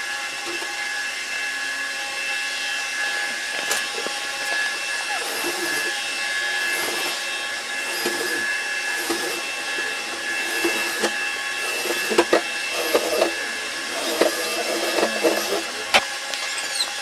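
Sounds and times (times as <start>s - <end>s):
machine whining hiss: 0.0s - 17.0s.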